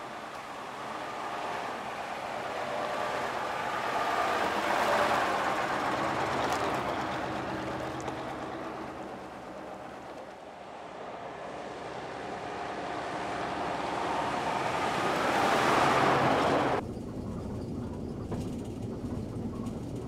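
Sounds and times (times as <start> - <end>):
bus driving past: 0.0 - 20.0.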